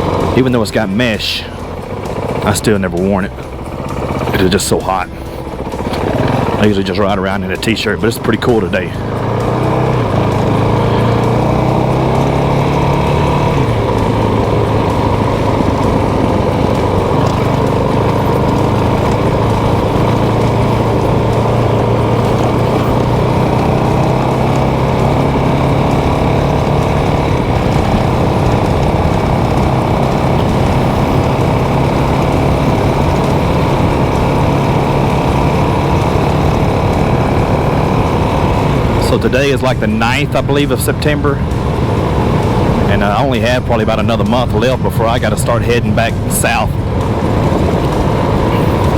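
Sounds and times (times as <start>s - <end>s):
motorcycle engine running: 0.0s - 48.9s
steady rushing noise: 0.0s - 48.9s.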